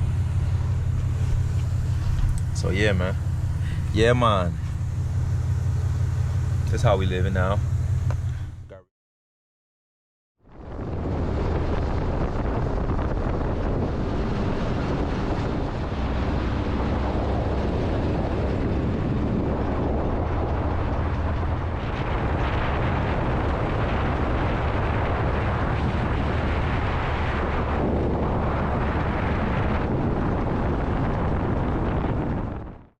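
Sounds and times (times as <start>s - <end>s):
wind noise: 0.0s - 8.6s, 10.5s - 32.9s
pickup truck engine and exhaust drone: 0.0s - 8.8s, 10.5s - 32.9s.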